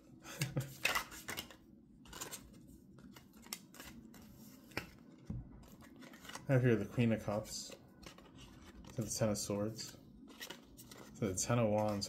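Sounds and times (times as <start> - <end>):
cards being shuffled: 0.7 - 9.2, 9.8 - 12.0.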